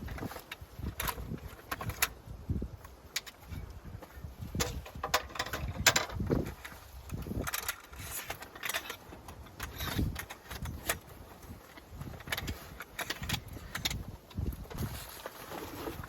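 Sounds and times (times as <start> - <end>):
gear rustling: 0.0 - 16.0.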